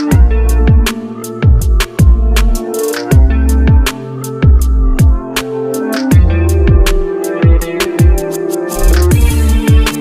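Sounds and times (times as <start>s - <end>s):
sharp percussion: 0.0s - 10.0s.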